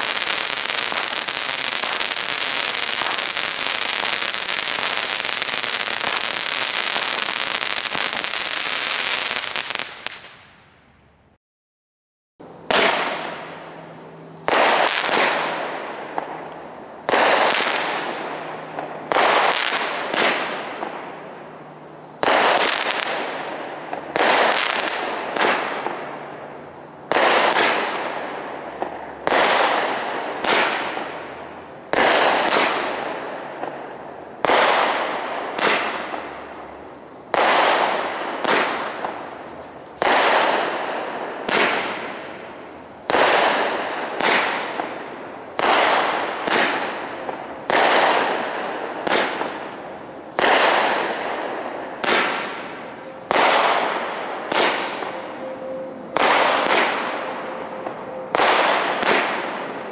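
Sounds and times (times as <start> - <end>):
fireworks bursting: 0.0 - 10.8, 12.4 - 59.9.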